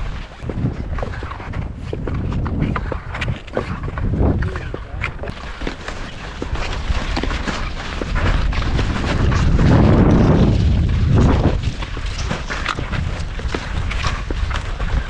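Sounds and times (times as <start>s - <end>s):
ski poles and skis clicking: 0.0s - 15.0s
wind buffeting microphone: 0.0s - 15.0s.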